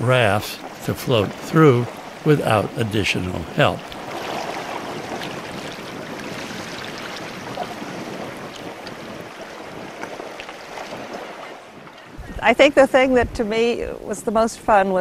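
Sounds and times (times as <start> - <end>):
river water rushing and splashing: 0.0 - 12.9.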